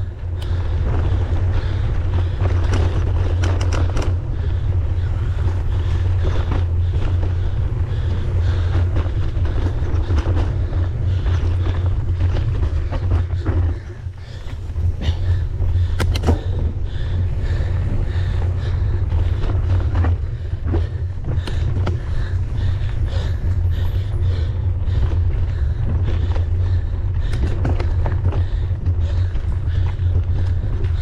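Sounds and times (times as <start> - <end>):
bike clicks and rattles: 0.0 - 31.0
wind on microphone: 0.0 - 31.0.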